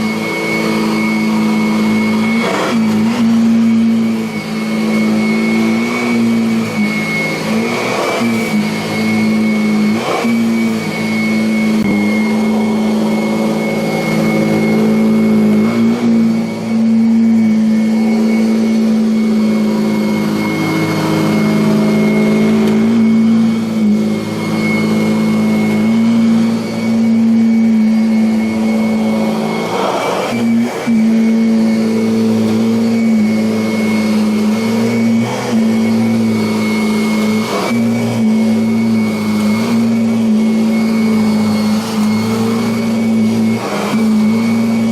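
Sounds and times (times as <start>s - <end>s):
vacuum cleaner motor running: 0.0s - 44.9s.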